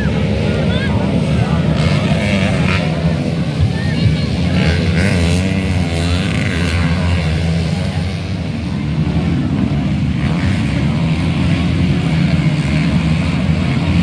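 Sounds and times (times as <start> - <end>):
motocross bike engines droning: 0.0 - 14.0.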